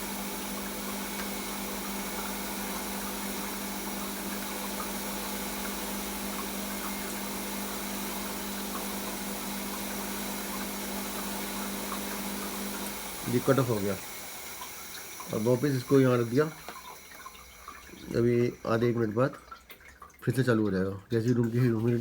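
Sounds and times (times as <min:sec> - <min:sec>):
humidifier motor hum: 0:00.0 - 0:19.6.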